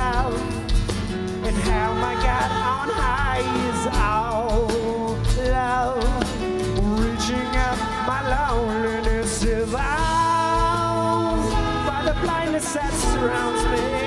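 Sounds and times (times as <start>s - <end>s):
live rock band playing: 0.0s - 14.0s
wavering lead guitar line: 0.0s - 14.0s.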